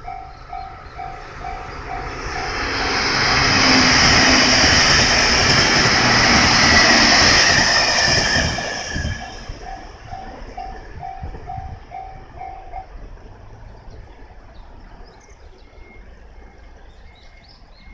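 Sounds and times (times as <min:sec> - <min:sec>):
crossing warning bell dinging: 0:00.0 - 0:17.9
train passing over crossing: 0:00.0 - 0:17.9.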